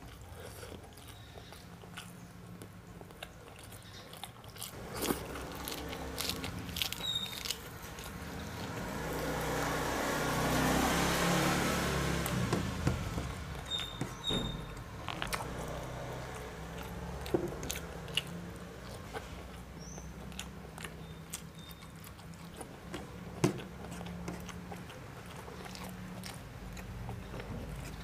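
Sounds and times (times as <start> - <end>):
person chewing: 0.0 - 9.8, 15.0 - 28.0.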